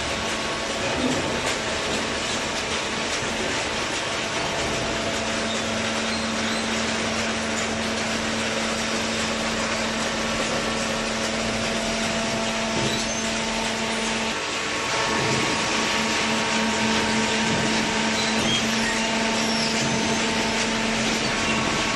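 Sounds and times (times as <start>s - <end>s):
hydraulic baler running: 0.0s - 21.9s
steady machine hum: 0.0s - 21.9s.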